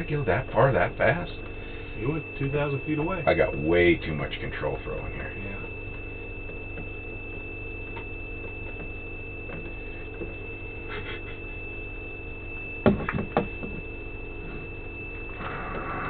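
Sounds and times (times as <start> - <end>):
electrical hum: 0.0 - 16.0
high-pitched whine: 0.0 - 16.0.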